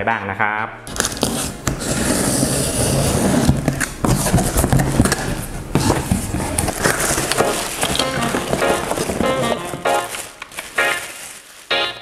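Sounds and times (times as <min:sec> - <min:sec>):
box cutter slitting tape: 0:00.9 - 0:11.1
cardboard scraping and rustling: 0:00.9 - 0:11.9.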